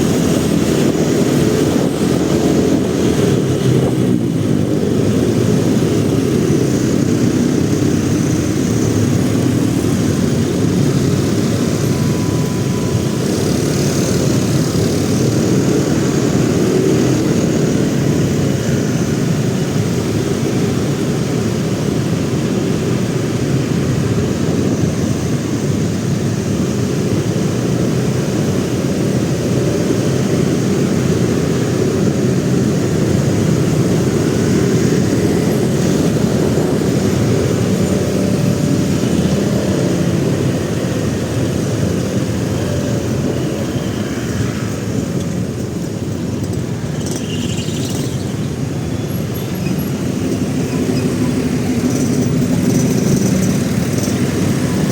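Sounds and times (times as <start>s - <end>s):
city traffic: 0.0s - 54.9s
motorcycle engine rumble: 0.0s - 54.9s
wind on microphone: 0.0s - 54.9s.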